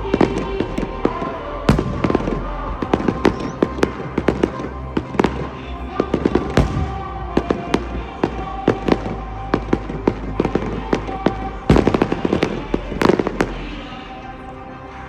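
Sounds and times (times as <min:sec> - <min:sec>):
fireworks bangs and crackling: 0:00.2 - 0:13.9.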